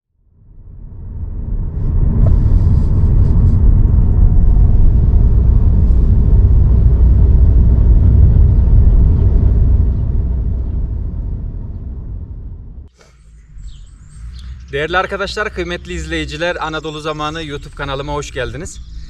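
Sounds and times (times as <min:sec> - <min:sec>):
car road and wind rumble: 0:00.2 - 0:19.0.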